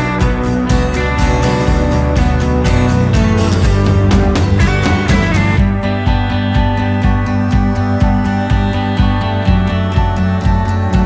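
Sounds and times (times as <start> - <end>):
strummed acoustic guitar music: 0.0 - 11.0.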